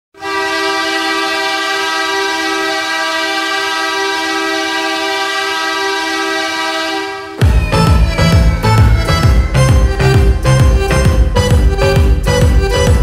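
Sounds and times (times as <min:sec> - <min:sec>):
goal horn blast: 0:00.2 - 0:13.0.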